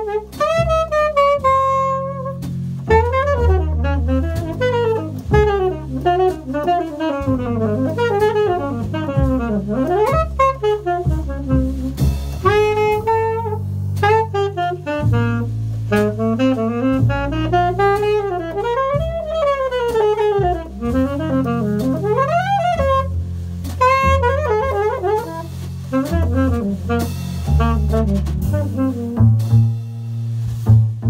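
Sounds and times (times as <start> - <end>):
saxophone melody: 0.0 - 23.2, 23.8 - 29.7
double bass low notes: 0.0 - 31.0
cymbal and drum strokes: 2.0 - 18.8, 19.4 - 31.0.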